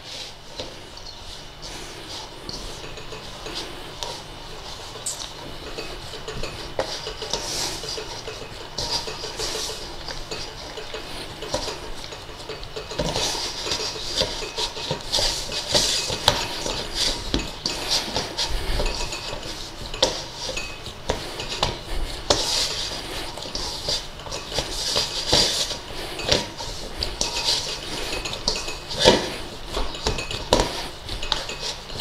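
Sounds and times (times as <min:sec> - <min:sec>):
metal bowl scraping and clinking: 0:01.0 - 0:32.0.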